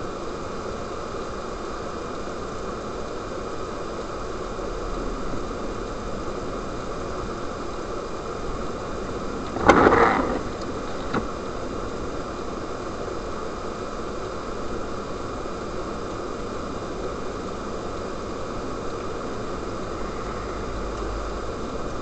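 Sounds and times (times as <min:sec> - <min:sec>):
car road and engine noise: 0:02.2 - 0:22.0.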